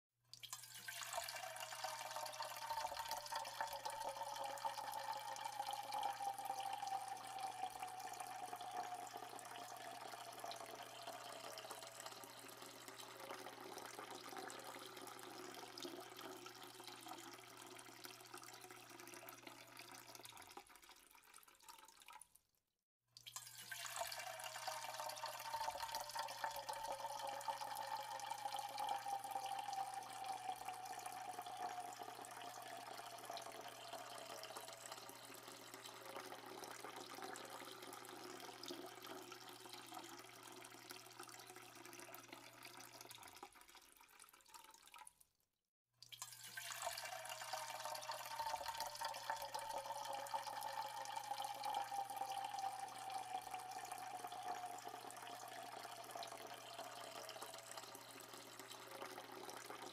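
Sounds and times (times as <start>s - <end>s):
tap water running: 0.3s - 22.2s, 23.2s - 45.0s, 46.0s - 59.9s.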